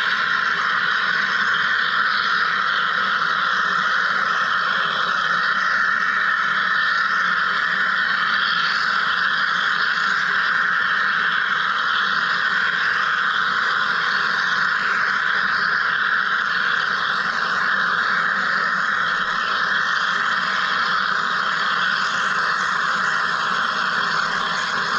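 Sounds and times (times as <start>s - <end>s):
machine cutting hiss: 0.0s - 24.9s.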